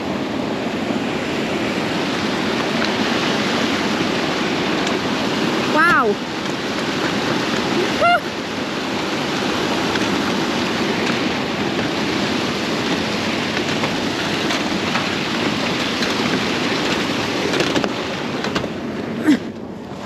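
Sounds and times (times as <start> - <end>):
water rushing through dam: 0.0 - 20.0.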